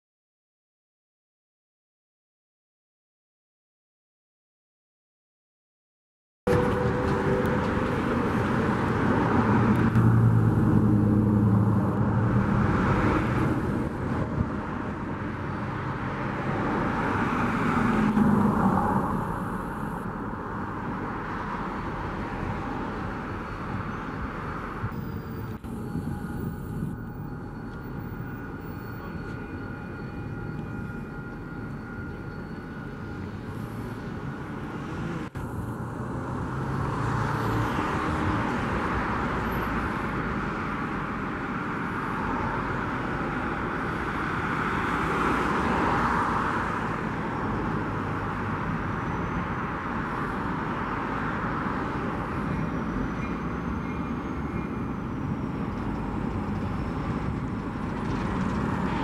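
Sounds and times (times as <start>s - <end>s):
diesel locomotive engine rumble: 6.5s - 59.0s
road traffic passing: 6.5s - 59.0s.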